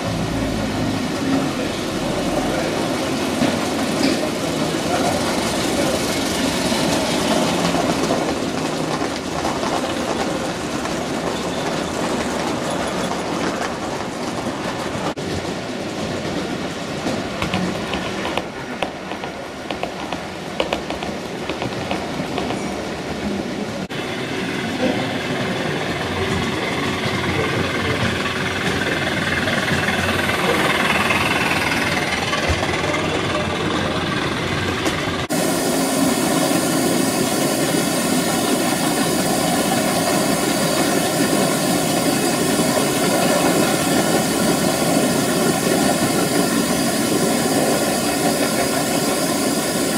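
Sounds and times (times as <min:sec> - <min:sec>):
model train wheels rolling on rails: 0:01.0 - 0:22.7, 0:25.6 - 0:49.9.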